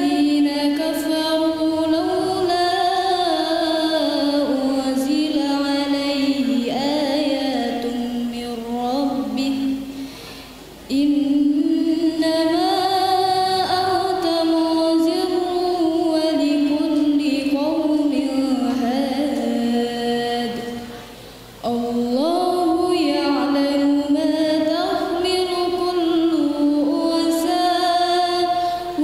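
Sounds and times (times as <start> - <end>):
girl reciting melodically: 0.0 - 29.0.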